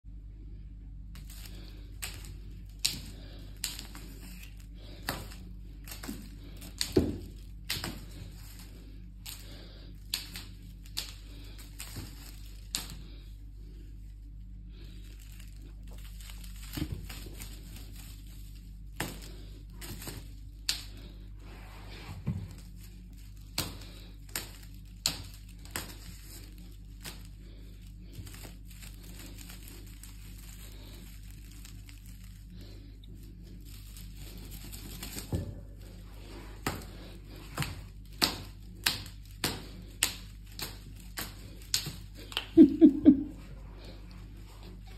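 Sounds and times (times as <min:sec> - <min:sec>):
low steady hum: 0:00.0 - 0:44.9
toy clicks and tinsel crinkles: 0:01.1 - 0:21.3, 0:22.4 - 0:44.9.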